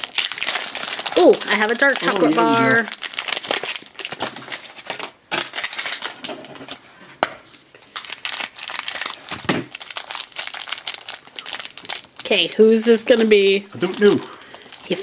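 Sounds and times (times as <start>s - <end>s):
foil wrapper crinkling: 0.0s - 6.8s, 7.8s - 15.0s.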